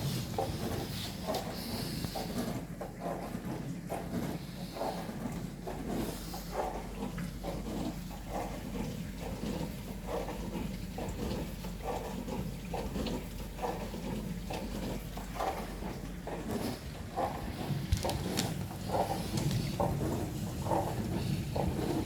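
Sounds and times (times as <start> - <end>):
dishwasher water swishing: 0.0 - 22.0
low mains hum: 0.0 - 22.0.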